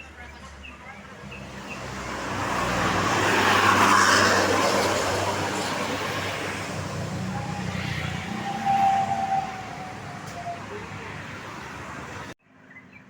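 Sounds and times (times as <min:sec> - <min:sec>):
bus passing: 0:00.0 - 0:12.7.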